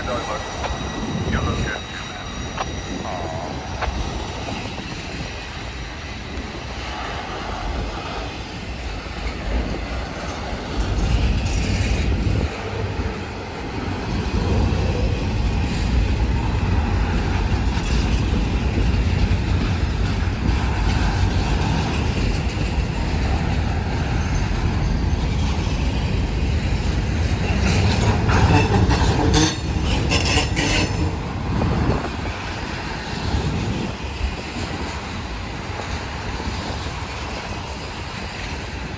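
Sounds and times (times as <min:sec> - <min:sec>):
freight train rumbling and clacking: 0:00.0 - 0:38.9.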